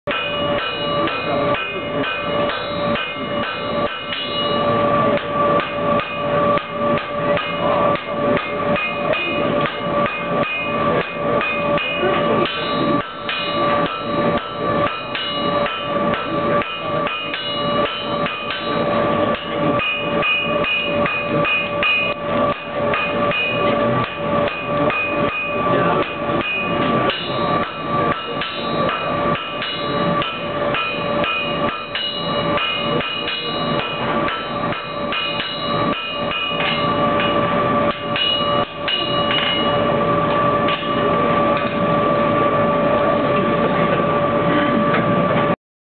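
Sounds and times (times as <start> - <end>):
hammer striking iron on anvil: 0.1 - 42.0
anvil ringing: 0.1 - 42.9.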